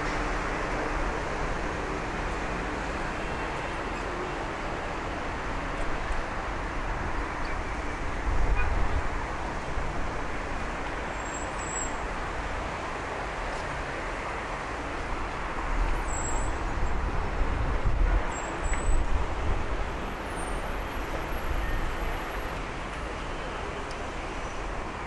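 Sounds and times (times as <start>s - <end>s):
heavy vehicle rumble: 0.0s - 25.0s
road vehicles passing: 0.0s - 25.0s.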